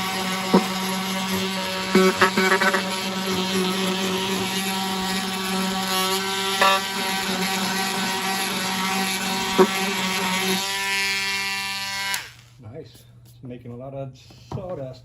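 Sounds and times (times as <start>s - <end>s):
detail sander buzzing: 0.0s - 12.3s.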